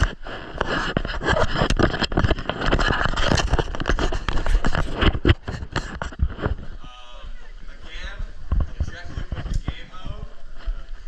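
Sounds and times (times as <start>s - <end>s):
scraping and rustling: 0.0s - 11.0s.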